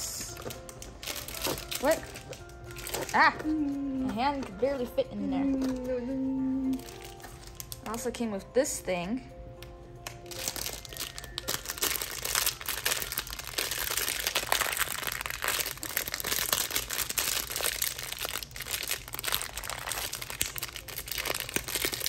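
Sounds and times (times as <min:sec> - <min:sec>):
plastic wrapper crinkling: 0:00.0 - 0:08.2, 0:10.0 - 0:22.0.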